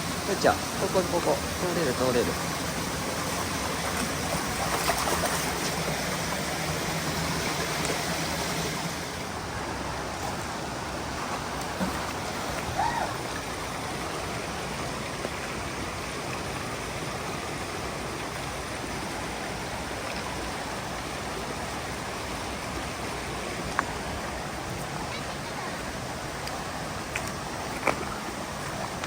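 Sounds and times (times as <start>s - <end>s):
stream rushing over boulders: 0.0s - 29.0s.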